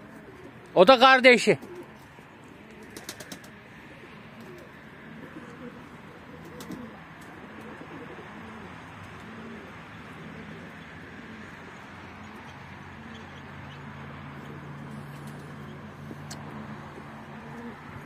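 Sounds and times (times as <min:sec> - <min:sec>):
pigeons cooing: 0:00.0 - 0:00.7, 0:01.6 - 0:18.0.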